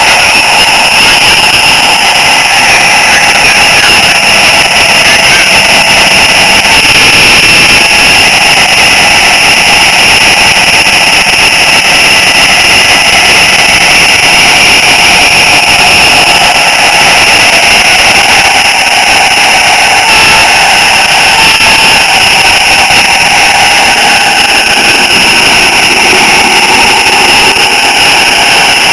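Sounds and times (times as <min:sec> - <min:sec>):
model train motor whining: 0:00.0 - 0:28.9.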